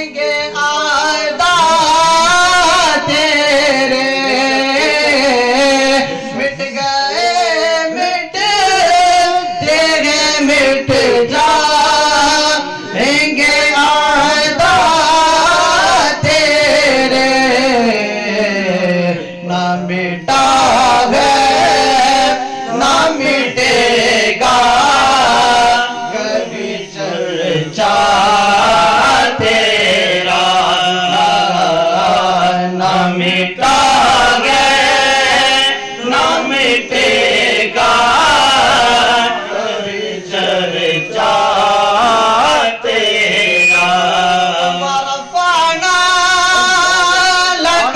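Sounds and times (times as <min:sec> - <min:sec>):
man singing unaccompanied: 0:00.0 - 0:47.9.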